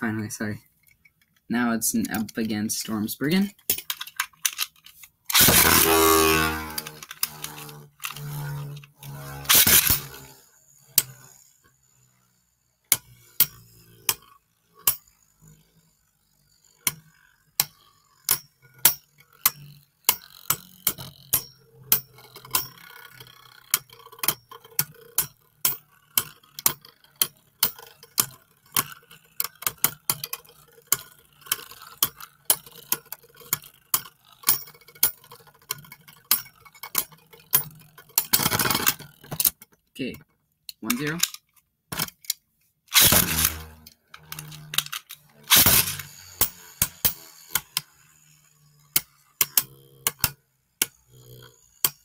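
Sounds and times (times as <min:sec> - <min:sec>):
spinning tops clacking: 0:02.0 - 0:12.2, 0:16.8 - 0:39.6, 0:42.9 - 0:52.0.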